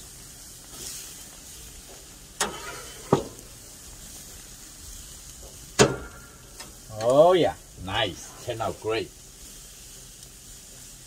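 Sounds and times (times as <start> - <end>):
seafood sizzling on a grill: 0.0 - 11.0.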